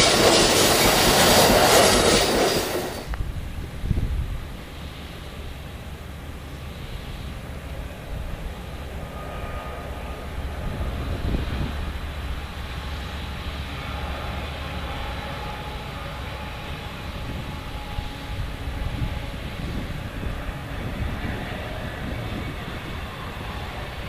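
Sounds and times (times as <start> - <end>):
distant freight train rumbling: 0.0 - 24.0.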